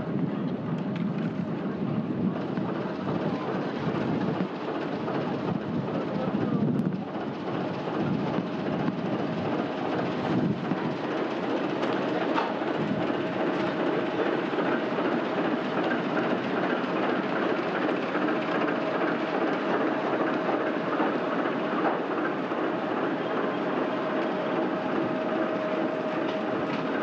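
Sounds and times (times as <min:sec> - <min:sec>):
locomotive engine rumble: 0:00.0 - 0:27.0
railcar wheels rolling: 0:00.0 - 0:27.0
thin steady whine: 0:01.2 - 0:27.0.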